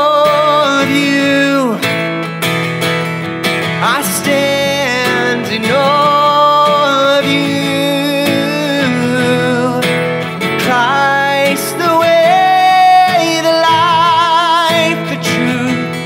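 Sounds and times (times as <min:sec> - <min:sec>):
man singing long notes: 0:00.0 - 0:01.9, 0:03.8 - 0:16.0
strummed acoustic guitar: 0:00.0 - 0:16.0.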